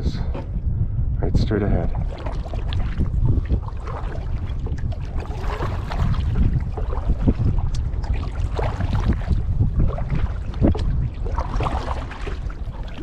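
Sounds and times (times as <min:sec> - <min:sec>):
wind rumbling on microphone: 0:00.0 - 0:13.0
kayak paddle splashing: 0:01.9 - 0:13.0.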